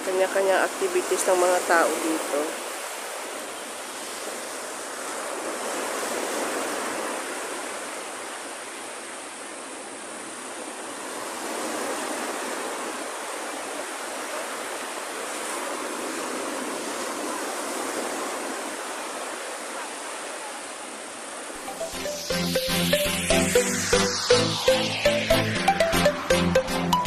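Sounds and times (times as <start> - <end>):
surf washing onto sandy beach: 0.0 - 23.5.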